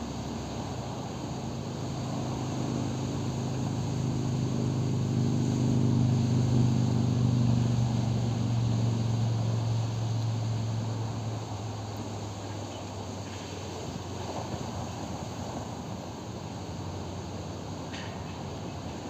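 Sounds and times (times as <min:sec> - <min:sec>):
distant engine hum: 0:00.0 - 0:19.0.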